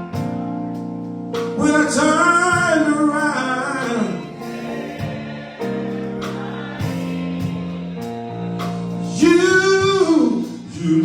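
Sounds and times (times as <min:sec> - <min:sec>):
drum and cymbal hits: 0:00.0 - 0:11.0
held keyboard chords: 0:00.0 - 0:11.0.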